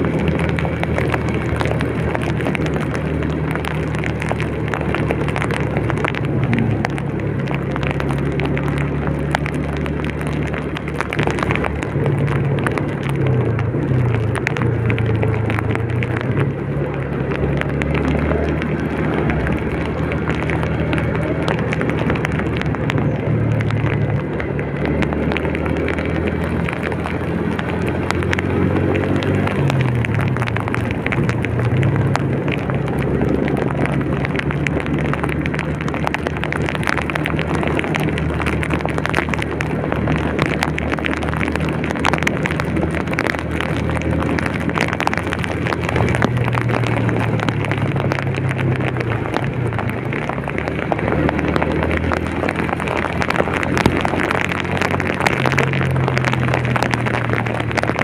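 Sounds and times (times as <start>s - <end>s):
engine hum: 0.0s - 58.0s
rain pattering on vehicle: 0.0s - 58.0s
road and rain noise: 0.0s - 58.0s.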